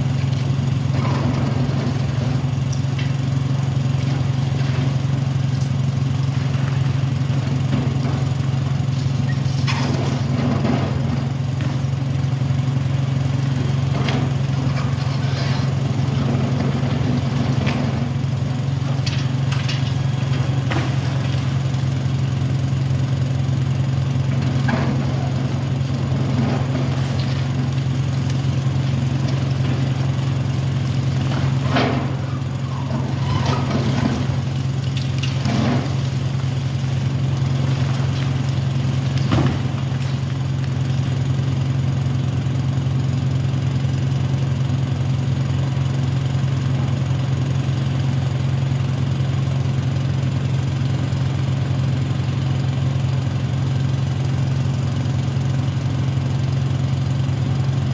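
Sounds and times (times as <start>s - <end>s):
excavator engine drone: 0.0s - 57.9s.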